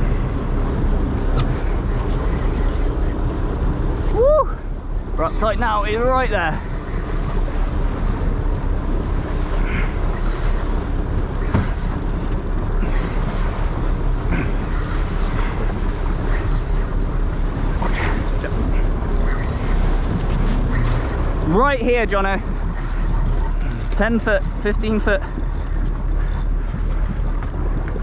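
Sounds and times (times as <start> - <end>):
choppy sea washing: 0.0 - 28.0
wind buffeting microphone: 0.0 - 28.0.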